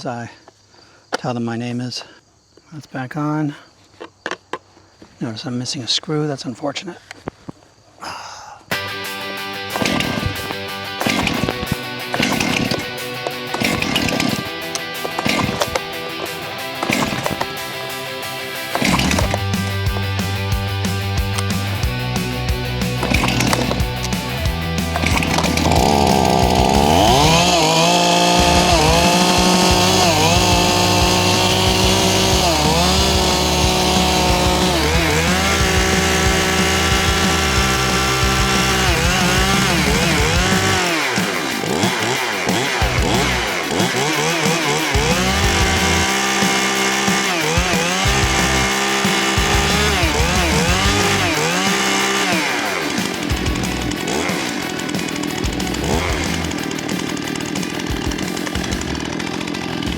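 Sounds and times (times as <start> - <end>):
chainsaw revving: 8.7 - 59.9.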